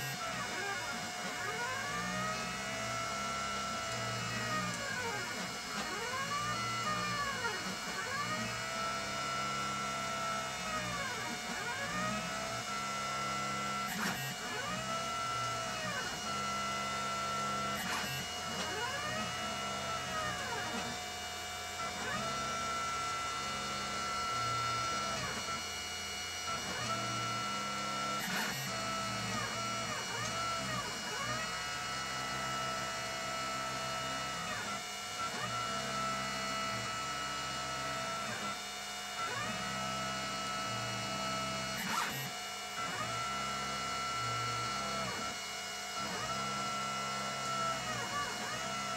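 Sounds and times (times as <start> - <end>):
stepper motors whining: 0.0 - 48.9.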